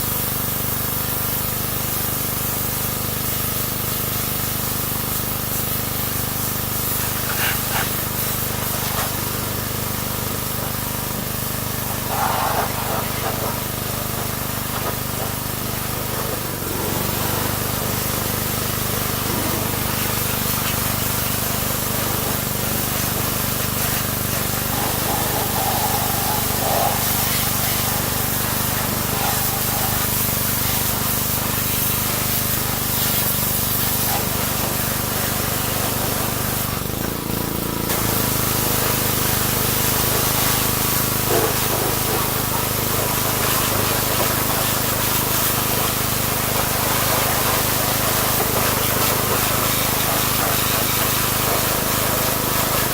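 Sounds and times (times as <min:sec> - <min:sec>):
pressure washer spray hiss: 0:00.0 - 0:52.9.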